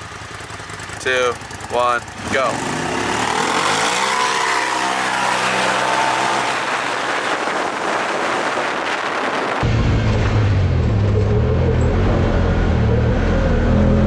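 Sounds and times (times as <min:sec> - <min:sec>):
engine accelerating hard: 0:00.0 - 0:14.0
wind and tyre noise: 0:00.0 - 0:14.0.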